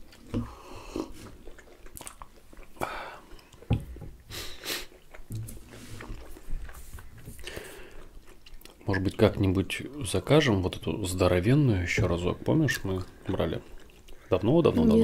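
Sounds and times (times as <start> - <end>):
wet chewing and smacks: 0.0 - 10.1, 12.6 - 14.5.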